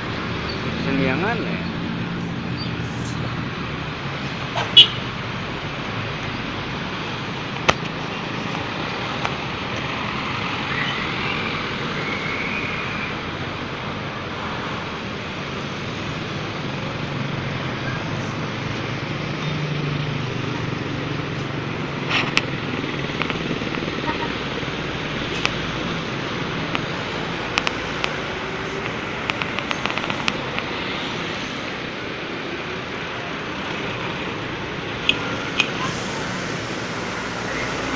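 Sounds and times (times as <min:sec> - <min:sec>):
vehicle engines in slow traffic: 0:00.0 - 0:37.9.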